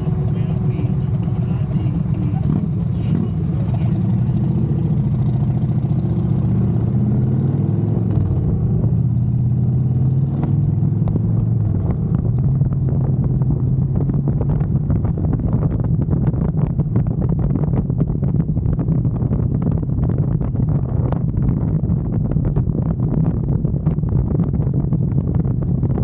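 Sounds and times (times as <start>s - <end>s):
motorcycle engine running: 0.0s - 26.0s
wind buffeting microphone: 4.1s - 26.0s.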